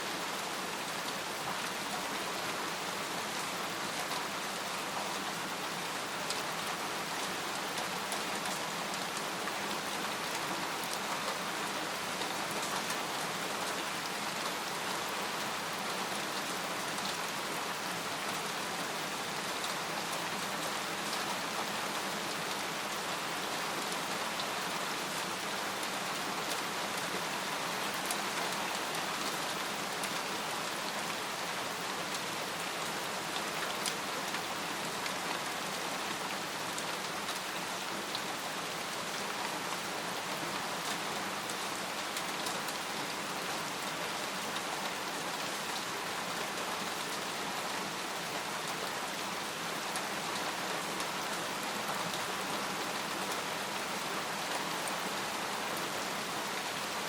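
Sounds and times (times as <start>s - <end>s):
rain falling on a tent: 0.0s - 57.0s.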